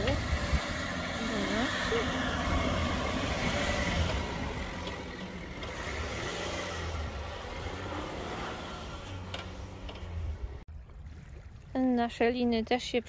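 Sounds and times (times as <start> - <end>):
car engine running: 0.0 - 10.7.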